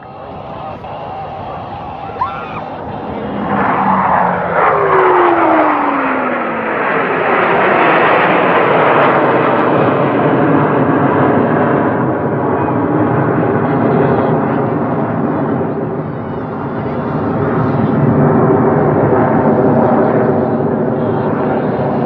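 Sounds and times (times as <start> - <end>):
jet engine roaring: 0.0 - 22.0.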